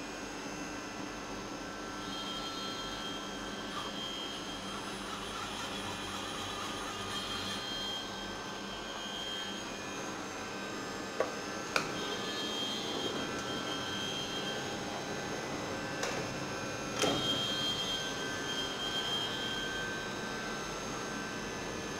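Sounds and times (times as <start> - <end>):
milling machine humming: 1.3 - 21.9
machine whining tones: 1.6 - 21.9.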